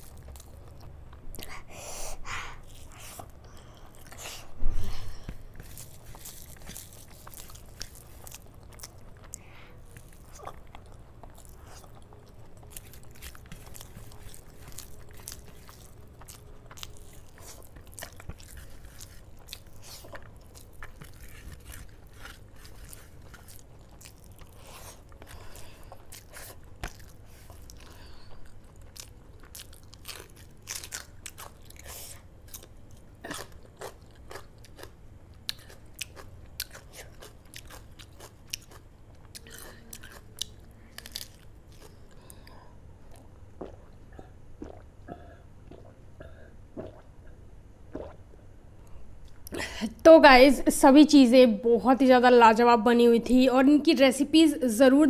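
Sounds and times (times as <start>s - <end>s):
wet chewing sounds: 0.0s - 48.2s
low steady hum: 0.0s - 55.0s.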